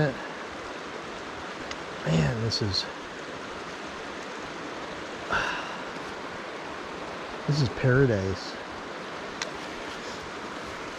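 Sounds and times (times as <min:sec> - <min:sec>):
river rushing over boulders: 0:00.0 - 0:10.9.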